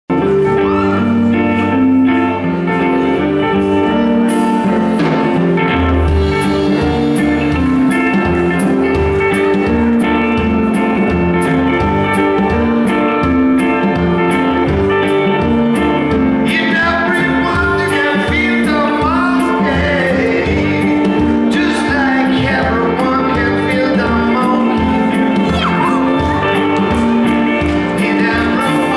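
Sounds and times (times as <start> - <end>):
blues band playing: 0.1 - 28.9
lead guitar bending notes: 0.1 - 28.9.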